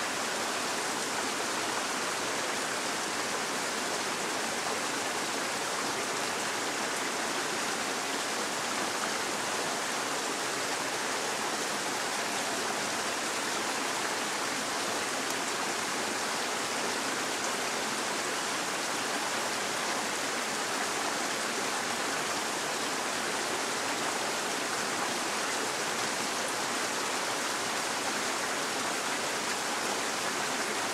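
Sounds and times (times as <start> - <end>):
forest stream running: 0.0 - 30.9.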